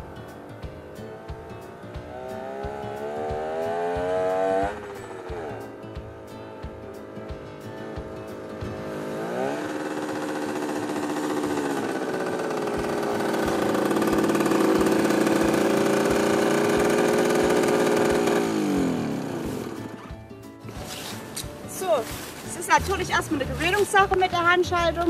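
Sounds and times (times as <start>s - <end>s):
two-stroke moped engine running: 0.0s - 21.4s.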